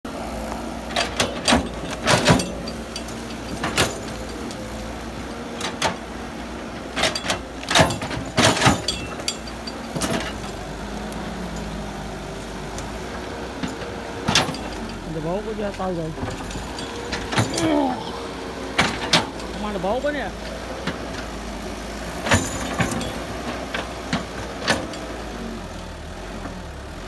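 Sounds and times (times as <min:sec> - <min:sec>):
excavator engine running: 0:00.0 - 0:27.0
metallic clanks and knocks: 0:00.9 - 0:21.4, 0:22.1 - 0:25.2.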